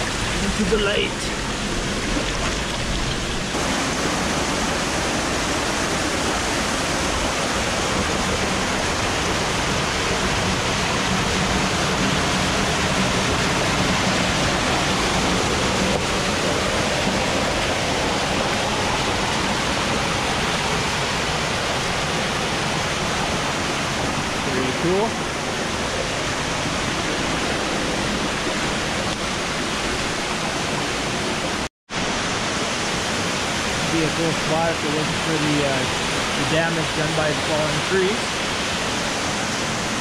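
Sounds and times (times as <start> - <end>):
water rushing: 0.0 - 40.0.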